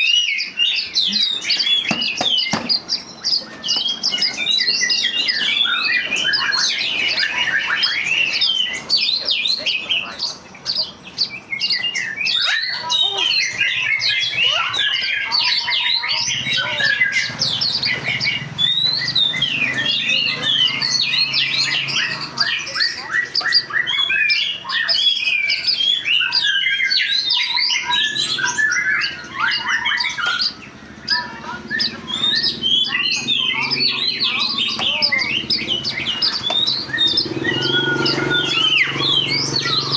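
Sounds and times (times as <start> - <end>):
birds chirping and squawking: 0.0 - 39.9.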